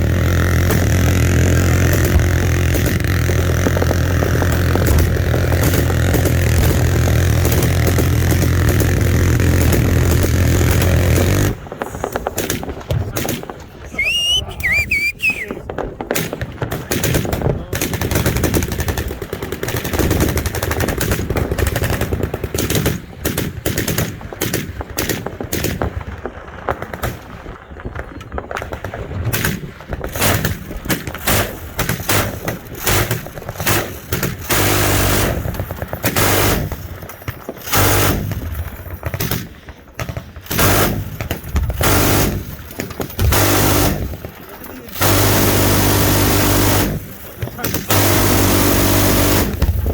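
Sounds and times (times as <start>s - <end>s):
machine-gun fire: 0.0s - 13.8s, 15.6s - 27.4s, 28.0s - 49.9s.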